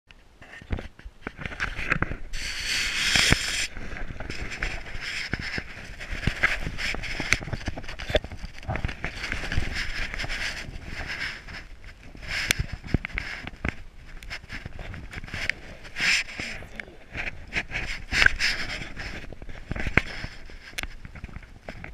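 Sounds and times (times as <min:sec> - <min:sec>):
camera rubbing on fabric: 0:00.4 - 0:21.9
rushing scrape: 0:01.4 - 0:21.8.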